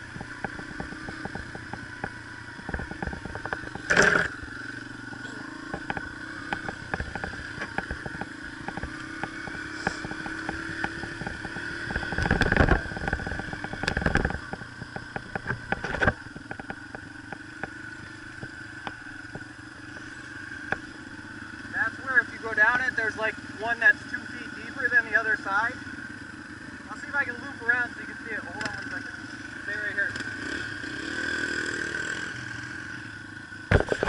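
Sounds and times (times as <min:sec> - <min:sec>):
bike rattling and knocking: 0:00.0 - 0:32.2, 0:33.0 - 0:34.0
dirt bike engine running: 0:00.0 - 0:34.0.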